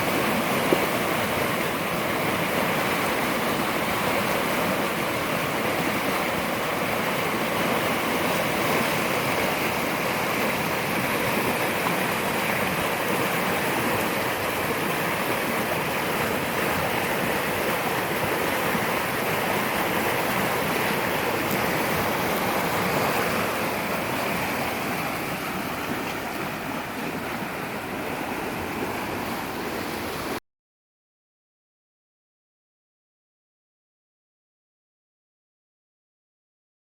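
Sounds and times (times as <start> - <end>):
floodwater rushing: 0.0 - 30.4.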